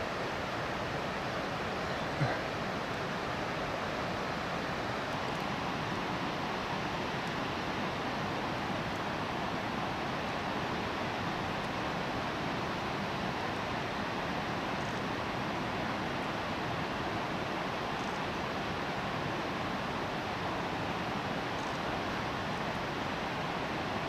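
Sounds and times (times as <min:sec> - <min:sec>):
rushing water or wind: 0:00.0 - 0:24.0.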